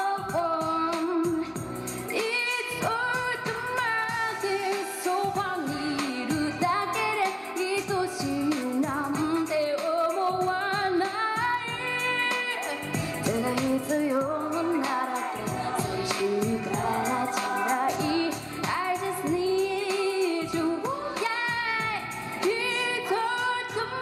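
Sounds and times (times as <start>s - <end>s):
backing music with steady beat: 0.0s - 24.0s
woman singing pop song: 0.0s - 24.0s.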